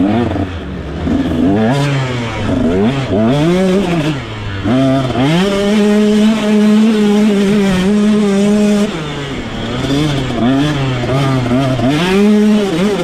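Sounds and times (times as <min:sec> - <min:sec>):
two-stroke engine revving: 0:00.0 - 0:13.0.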